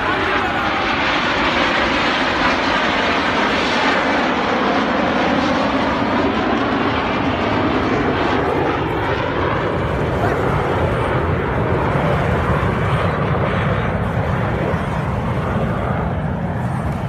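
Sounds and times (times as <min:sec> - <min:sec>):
airplane flying past: 0:00.0 - 0:17.0.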